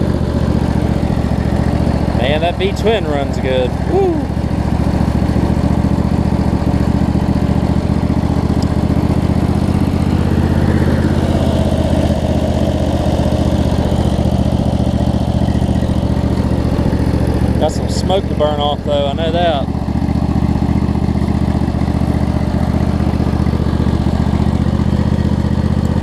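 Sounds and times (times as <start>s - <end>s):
riding mower engine running: 0.0s - 26.0s.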